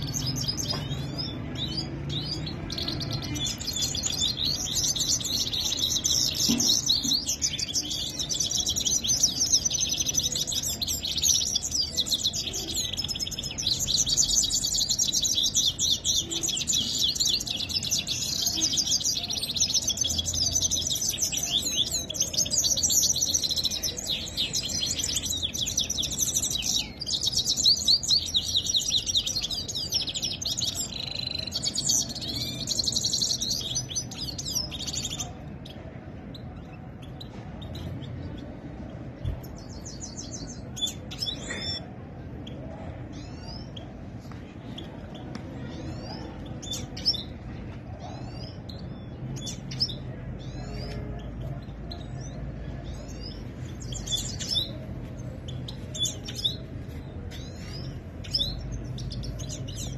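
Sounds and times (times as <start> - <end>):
finches chirping and twittering: 0.0 - 59.9.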